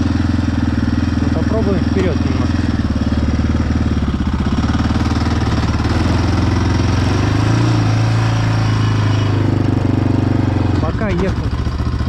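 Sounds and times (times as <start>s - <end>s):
quad engine revving: 0.0s - 12.0s.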